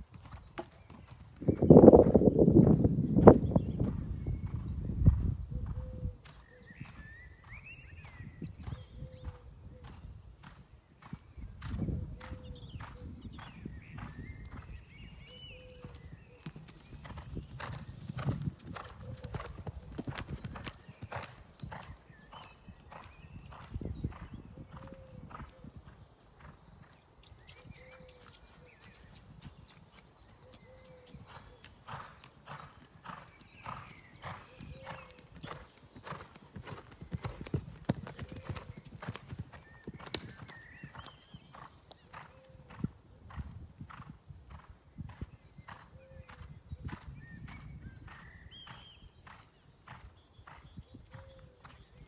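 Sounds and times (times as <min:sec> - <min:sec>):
horse hoofbeats on sand: 0:06.2 - 0:51.9.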